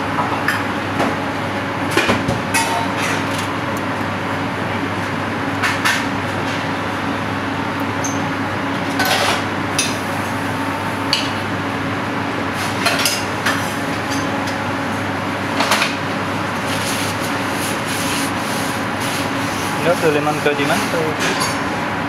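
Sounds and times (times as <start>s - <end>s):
ventilation hum: 0.0s - 22.0s.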